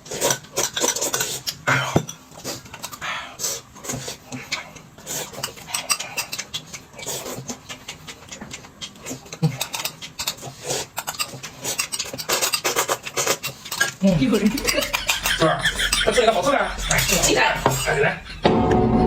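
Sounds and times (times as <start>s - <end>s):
noisy chewing: 0.0s - 17.6s.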